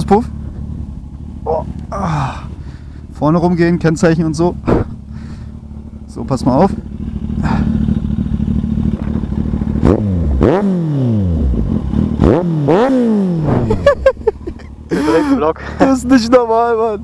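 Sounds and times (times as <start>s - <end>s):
loud motorcycle engine idling and revving: 0.0s - 17.0s.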